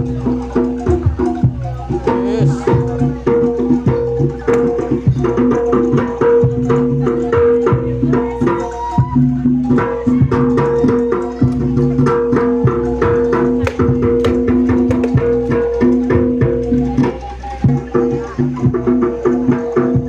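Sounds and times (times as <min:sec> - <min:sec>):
rapid drum and percussion strokes: 0:00.0 - 0:20.0.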